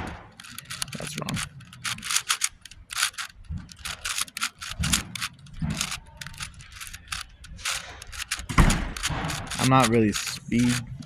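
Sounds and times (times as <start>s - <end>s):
puzzle cube plastic clicks: 0.0s - 11.0s.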